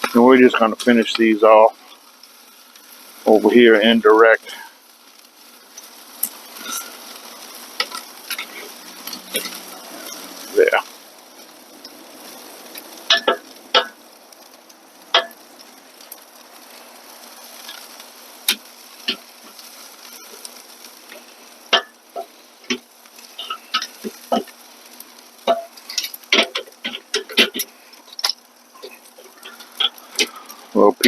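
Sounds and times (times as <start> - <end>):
chicken sizzling on a grill: 0.0 - 31.0.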